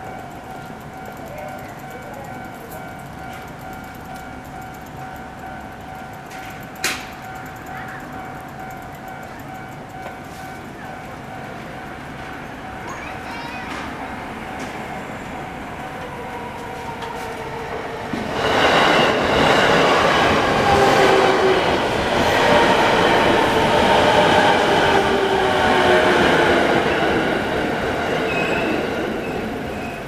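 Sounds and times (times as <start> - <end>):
crossing warning bell ringing: 0.0 - 30.0
electric train passing: 0.0 - 30.0.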